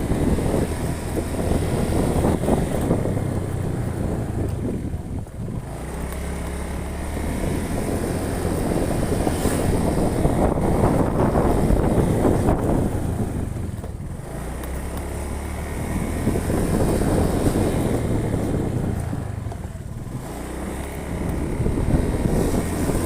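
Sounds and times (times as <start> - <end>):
car engine droning: 0.0 - 23.0
road noise rumbling: 0.0 - 23.0.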